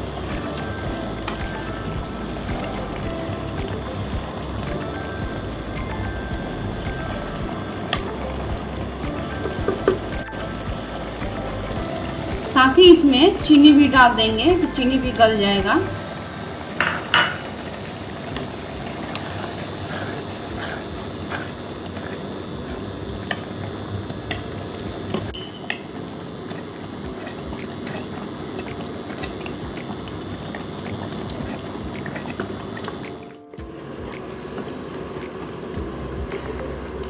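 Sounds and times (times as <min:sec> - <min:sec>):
milk mixture bubbling: 0:00.0 - 0:14.0, 0:15.6 - 0:37.0.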